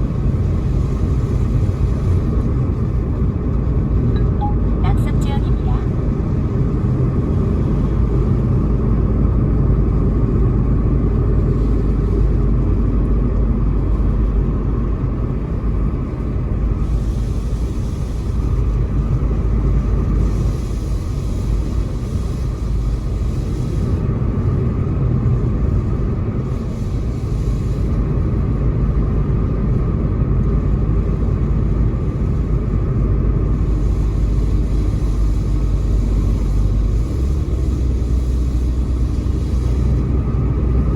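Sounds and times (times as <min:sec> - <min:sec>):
tyre hiss on wet road: 0:00.0 - 0:03.9, 0:06.1 - 0:40.9
car road and engine rumble: 0:00.0 - 0:40.9.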